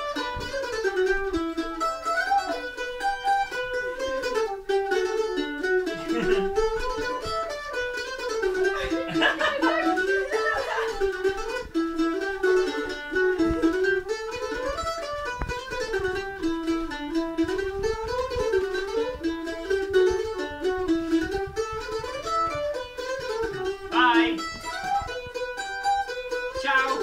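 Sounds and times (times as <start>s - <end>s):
mandolin playing lively tune: 0.0s - 27.0s.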